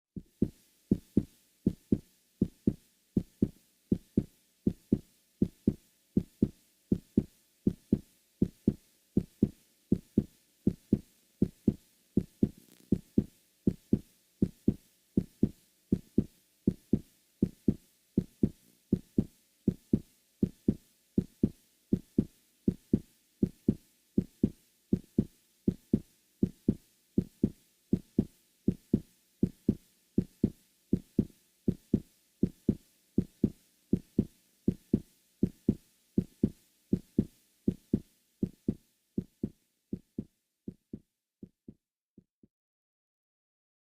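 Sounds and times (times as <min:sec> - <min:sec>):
heartbeat thumps: 0:00.2 - 0:41.8.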